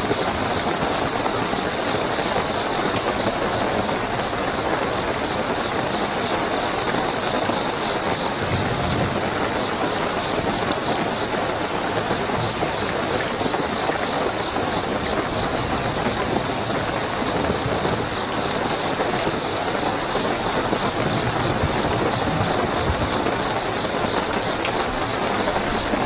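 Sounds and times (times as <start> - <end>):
crickets trilling: 0.0 - 26.0
heavy rainfall: 0.0 - 26.0.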